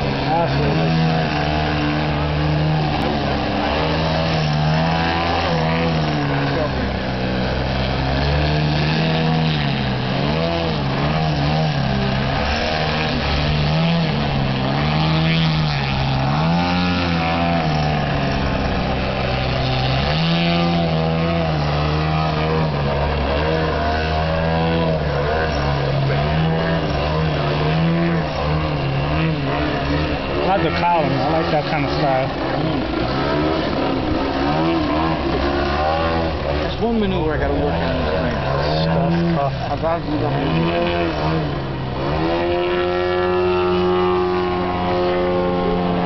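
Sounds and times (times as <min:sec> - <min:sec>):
model airplane engine: 0:00.0 - 0:46.0.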